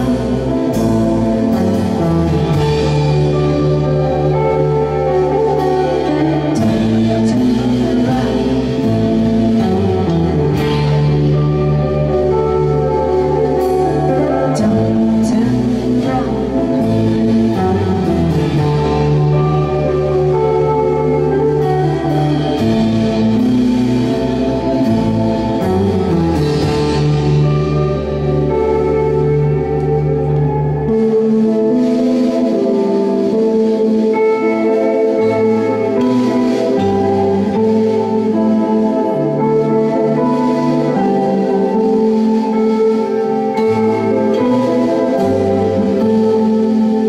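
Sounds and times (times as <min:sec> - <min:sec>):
bass: 0:00.0 - 0:47.0
electric guitar chords: 0:00.0 - 0:47.0.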